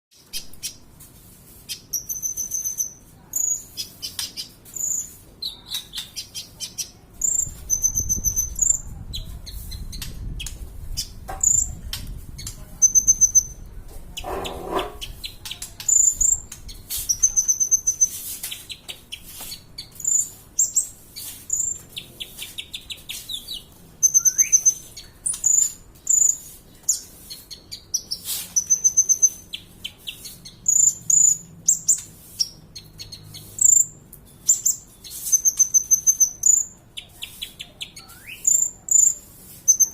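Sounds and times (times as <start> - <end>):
sunbird singing: 1.7 - 11.8, 12.4 - 39.9.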